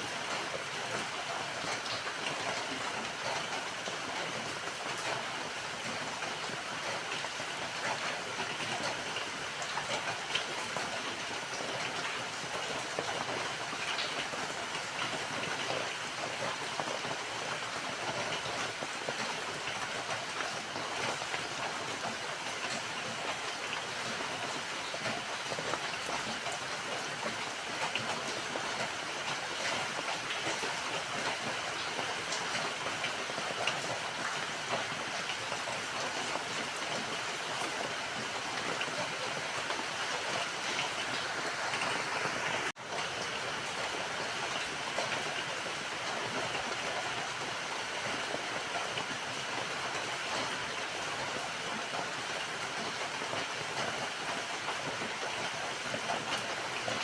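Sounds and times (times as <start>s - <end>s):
raindrops ticking on a surface: 0.1s - 57.0s.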